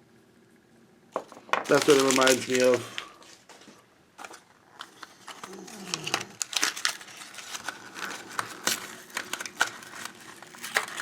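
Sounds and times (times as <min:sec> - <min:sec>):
plastic packaging crinkling: 0:01.2 - 0:03.2, 0:04.2 - 0:11.0.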